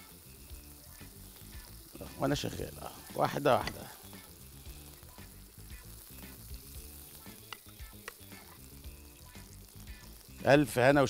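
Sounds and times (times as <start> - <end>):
batter sizzling in a skillet: 0.0 - 11.0
faint background music: 0.0 - 11.0.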